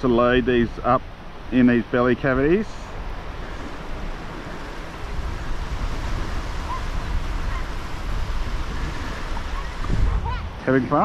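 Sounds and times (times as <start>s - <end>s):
waves breaking on the shore: 0.0s - 11.0s
wind buffeting the microphone: 0.0s - 11.0s.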